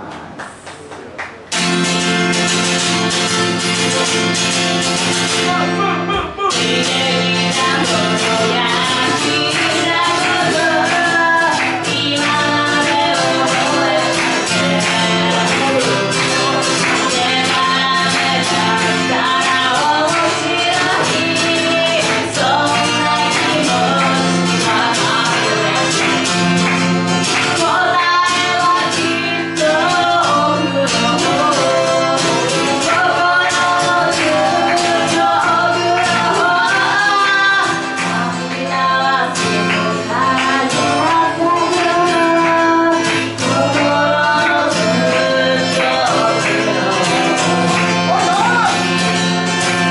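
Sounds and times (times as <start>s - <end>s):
acoustic guitar strumming: 1.4s - 49.9s
woman singing: 6.5s - 49.9s.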